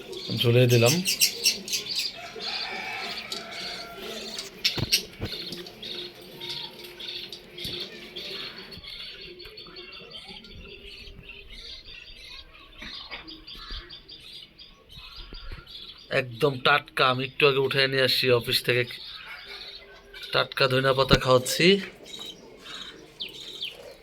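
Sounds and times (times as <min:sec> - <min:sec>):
caged birds chirping: 0:00.0 - 0:24.0.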